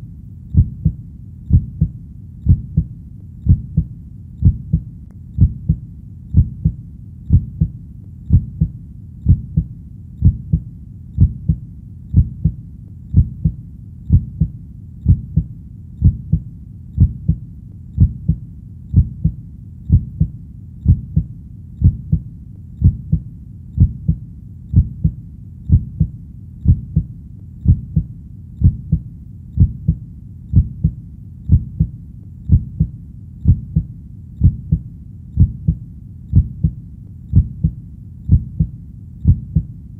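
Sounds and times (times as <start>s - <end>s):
heartbeat thumps: 0.0s - 17.4s, 18.0s - 39.8s.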